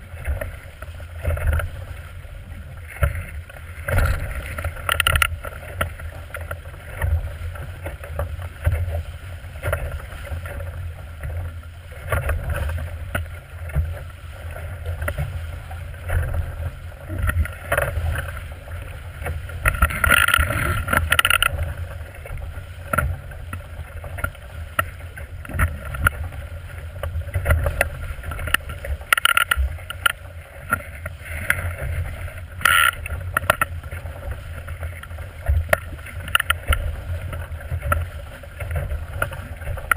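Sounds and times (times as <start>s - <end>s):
water rushing and splashing along hull: 0.0s - 39.9s
wind rumbling on microphone: 0.0s - 39.9s.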